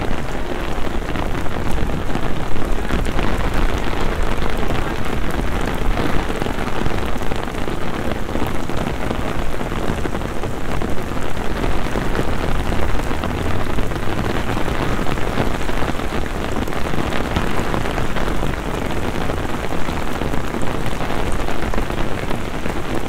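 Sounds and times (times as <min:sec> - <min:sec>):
heavy rain on wet paving: 0:00.0 - 0:23.0.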